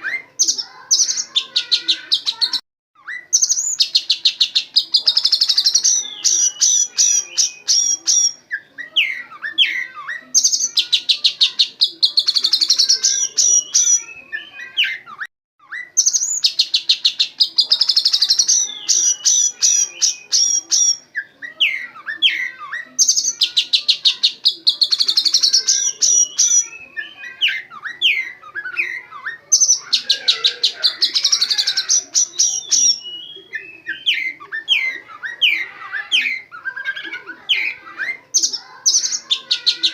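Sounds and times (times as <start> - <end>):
songbird chattering and whistling: 0.0 - 39.9.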